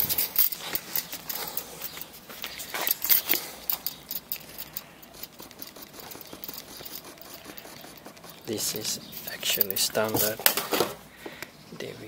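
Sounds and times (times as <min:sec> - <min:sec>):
rustling: 0:00.0 - 0:11.2.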